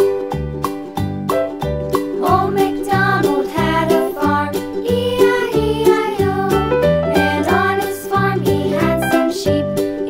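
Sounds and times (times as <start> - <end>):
bouncy children's music: 0.0 - 10.0.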